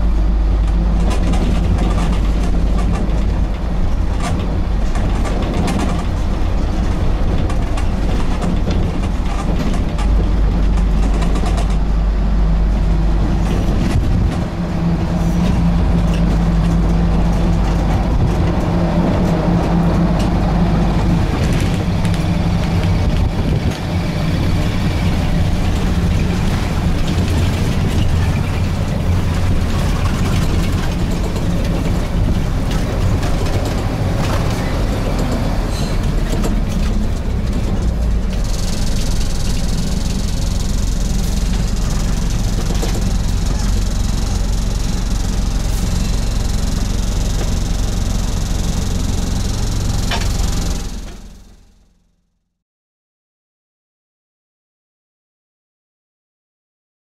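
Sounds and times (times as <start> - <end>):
bus diesel engine running: 0.0 - 52.5.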